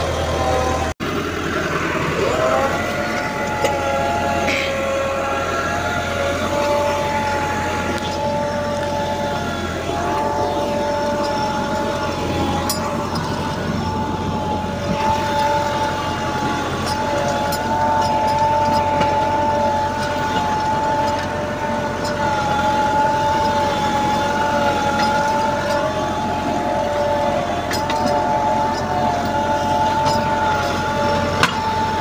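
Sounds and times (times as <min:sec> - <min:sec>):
tractor diesel engine under load: 0:00.0 - 0:32.0
wavering whine: 0:00.0 - 0:32.0
faint clinks from cultivator tines: 0:02.6 - 0:32.0.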